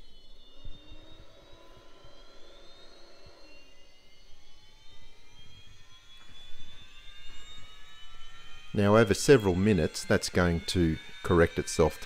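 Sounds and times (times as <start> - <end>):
gyro rotor whine rising: 0.0 - 12.0.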